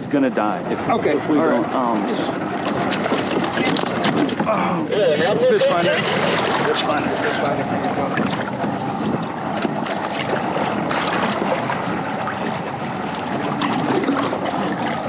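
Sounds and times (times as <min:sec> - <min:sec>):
water sloshing against kayak: 0:00.4 - 0:15.0.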